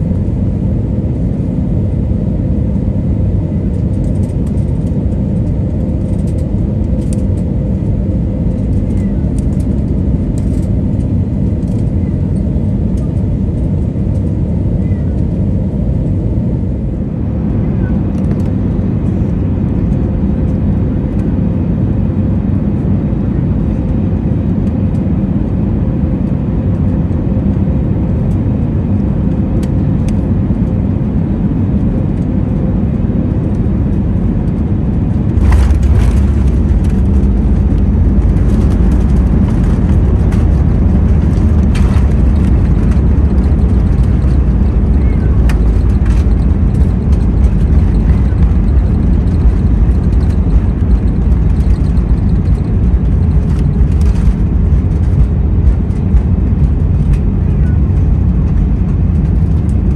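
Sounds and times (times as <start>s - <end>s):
airplane cabin engine rumble: 0.0s - 59.9s
deep rumble of plane rolling: 0.0s - 59.9s.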